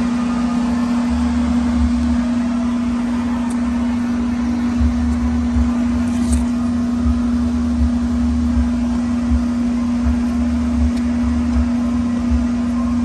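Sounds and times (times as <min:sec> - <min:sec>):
low rumble: 0:00.0 - 0:13.0
steady machine hum: 0:00.0 - 0:13.0.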